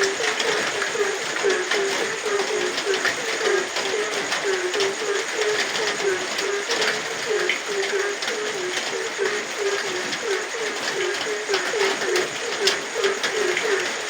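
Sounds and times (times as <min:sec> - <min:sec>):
frogs croaking: 0:00.0 - 0:14.0
steady rain: 0:00.0 - 0:14.0.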